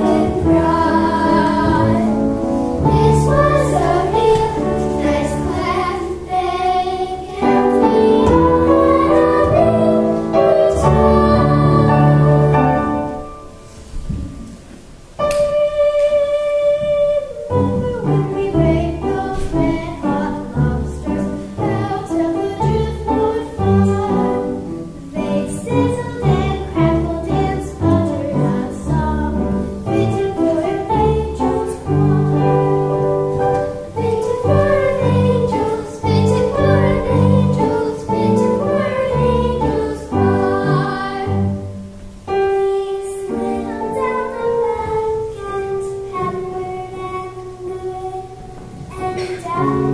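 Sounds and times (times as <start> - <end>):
child singing: 0.0 - 12.6, 15.2 - 33.0, 33.6 - 41.6, 42.3 - 49.9
piano accompaniment: 0.0 - 49.9.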